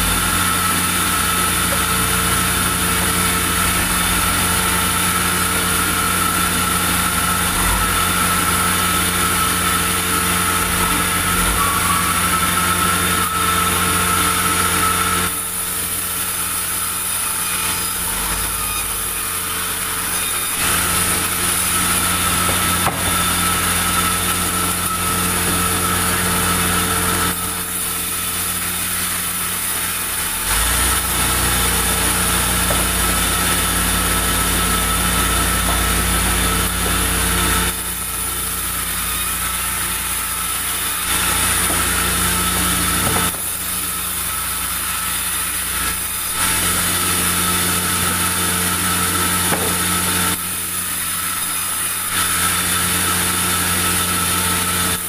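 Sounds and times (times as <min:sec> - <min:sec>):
band saw sawing log: 0:00.0 - 0:55.0.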